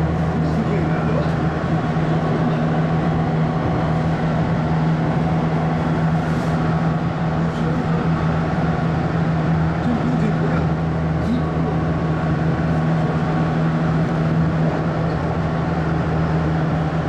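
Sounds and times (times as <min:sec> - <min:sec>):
constant low hum: 0:00.0 - 0:17.0
train carriage rumble: 0:00.0 - 0:17.0.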